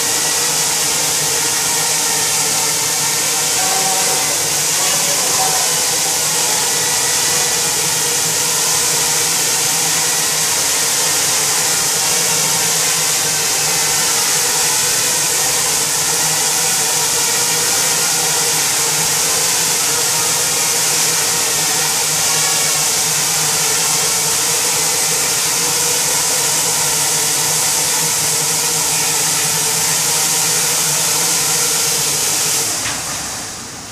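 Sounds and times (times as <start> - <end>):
drone propellers whirring: 0.0 - 33.9.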